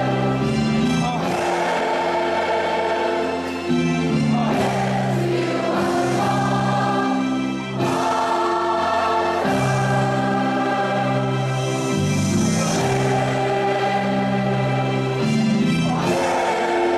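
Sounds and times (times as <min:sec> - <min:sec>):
mixed choir singing: 0:00.0 - 0:16.9.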